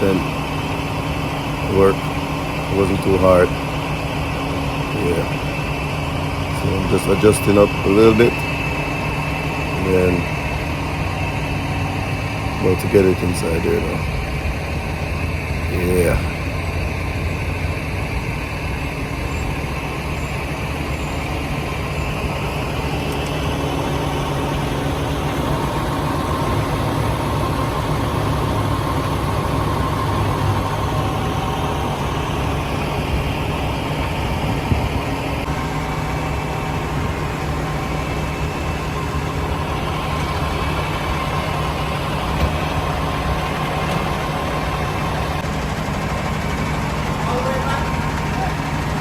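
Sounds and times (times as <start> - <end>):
truck engine idling: 0.0 - 49.0.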